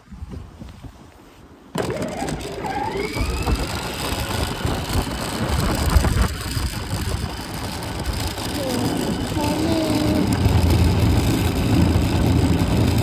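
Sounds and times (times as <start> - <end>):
plastic wheels rumbling on pavement: 1.7 - 13.0
electric motors whining: 1.8 - 13.0.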